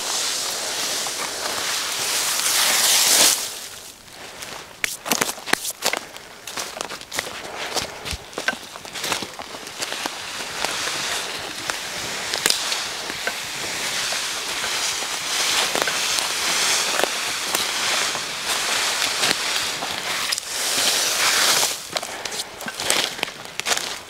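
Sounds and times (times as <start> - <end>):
boughs rustling over dry leaves: 0.0 - 24.0
footsteps crunching on leaves: 0.0 - 24.0.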